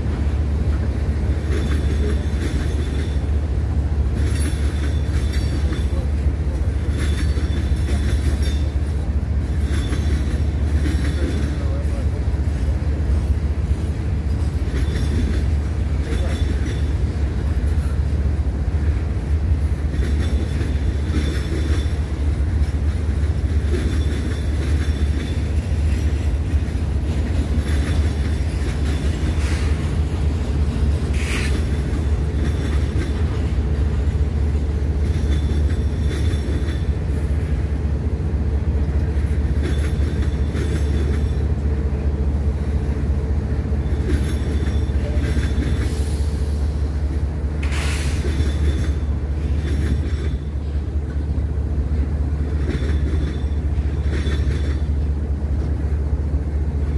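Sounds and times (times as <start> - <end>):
train rumbling past: 0.0 - 56.9
train wheel squeal: 0.7 - 3.5, 4.1 - 13.3, 14.3 - 18.2, 19.8 - 37.6, 39.0 - 41.7, 43.6 - 47.0, 47.6 - 51.0, 52.4 - 55.1.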